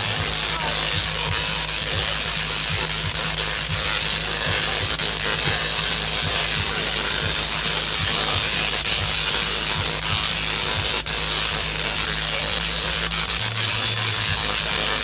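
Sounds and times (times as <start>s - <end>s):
sharp spark crack: 0.0s - 15.0s
tesla coil sparks crackling: 0.0s - 15.0s.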